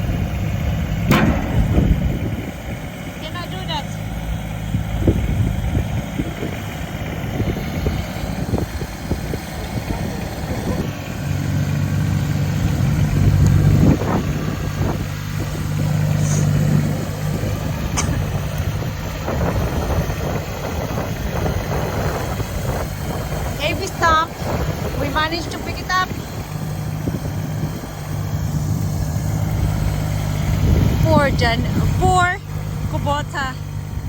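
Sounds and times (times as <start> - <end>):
tractor diesel engine straining: 0.0 - 34.0.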